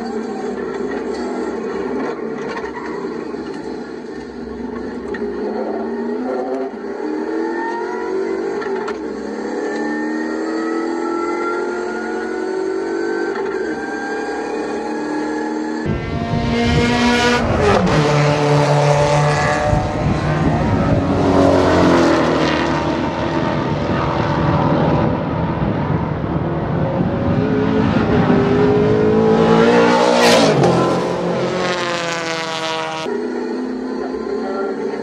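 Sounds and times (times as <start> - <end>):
racing car engines passing: 0.0 - 35.0.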